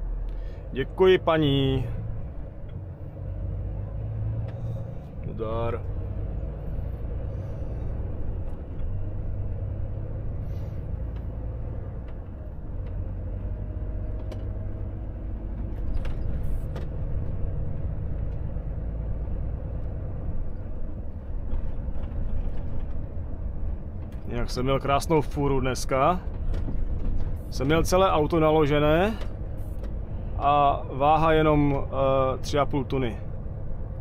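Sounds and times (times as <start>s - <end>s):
truck engine rumble from cab: 0.0s - 34.0s.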